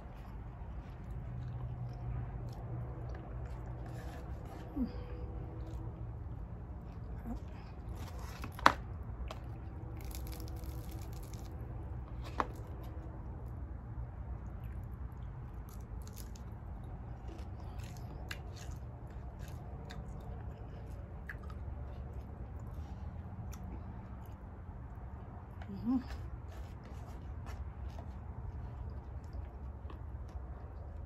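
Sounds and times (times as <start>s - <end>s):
person chewing crunchy food: 0.0s - 31.0s
steady low hum: 0.0s - 31.0s.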